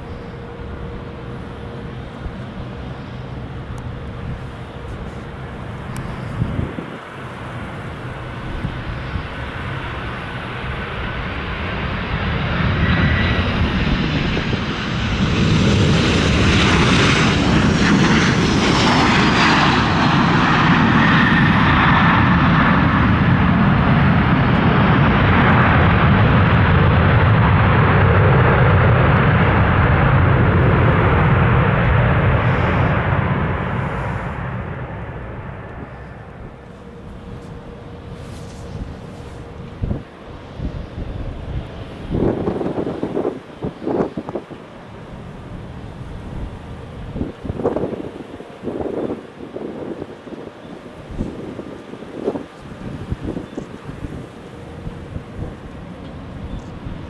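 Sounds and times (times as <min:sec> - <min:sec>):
jet engine whine falling in pitch: 0:00.0 - 0:57.0
jet engines roaring: 0:00.0 - 0:57.0
strong wind: 0:00.0 - 0:57.0.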